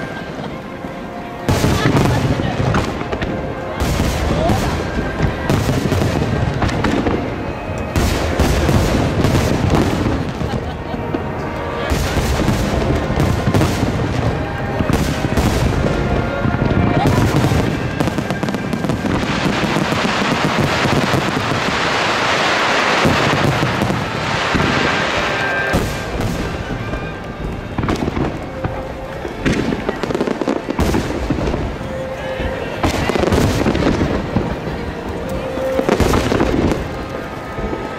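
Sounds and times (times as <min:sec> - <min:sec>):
fireworks booming: 0:00.0 - 0:37.9
fireworks crackling: 0:00.0 - 0:37.9.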